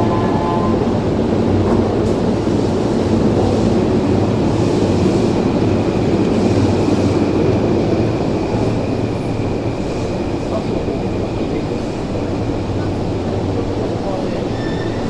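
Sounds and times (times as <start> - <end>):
train station rumble and hum: 0.0 - 15.0.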